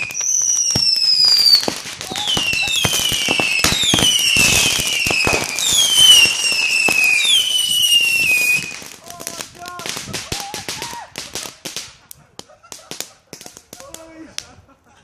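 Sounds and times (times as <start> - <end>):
fireworks popping and crackling: 0.0 - 14.6
whistling fireworks: 0.0 - 14.6.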